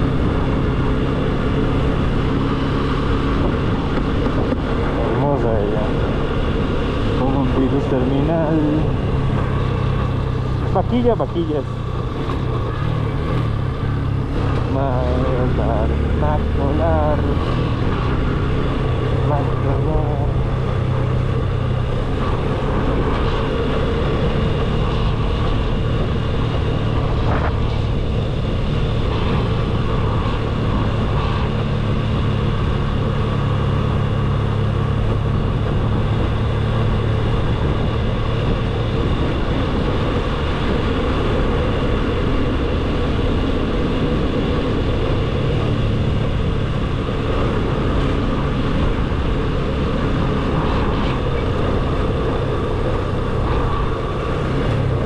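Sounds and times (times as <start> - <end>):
motorcycle engine cruising: 0.0 - 55.0
riding wind noise: 0.0 - 55.0.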